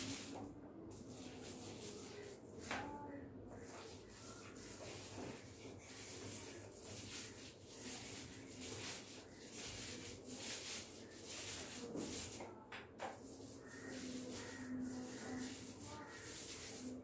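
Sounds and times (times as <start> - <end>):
paint roller swishing on wall: 0.0 - 17.0.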